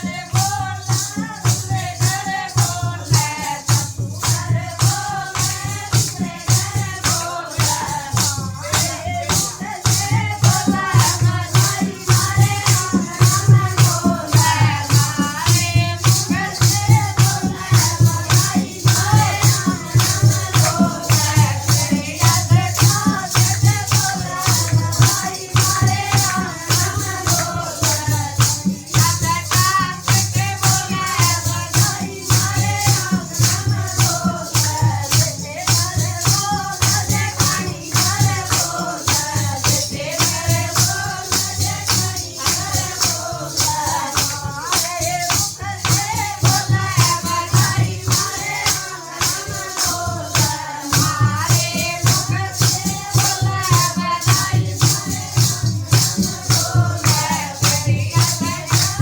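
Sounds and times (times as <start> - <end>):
fast percussion beat: 0.0 - 59.0
folk singing: 0.0 - 59.0.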